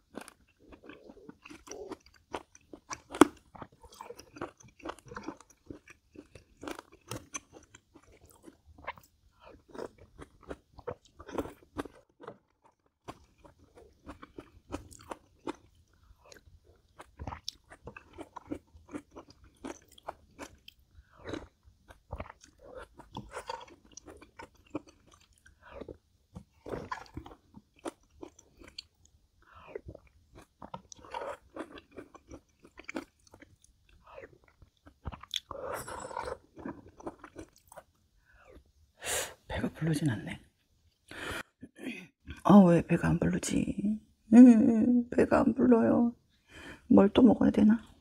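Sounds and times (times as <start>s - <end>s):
person chewing food: 0.0s - 39.0s
crunching and clicking mouth sounds: 0.1s - 38.7s.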